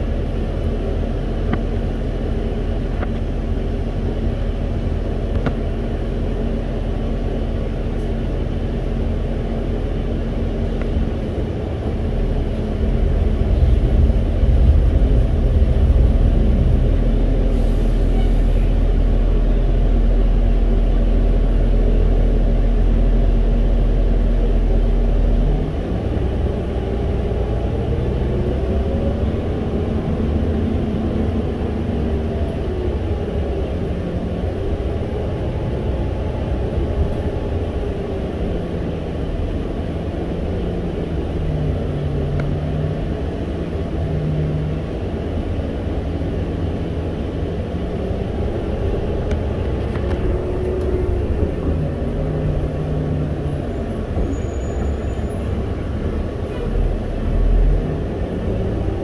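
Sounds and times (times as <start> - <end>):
bus engine drone: 0.0 - 59.0
road rumble: 0.0 - 59.0.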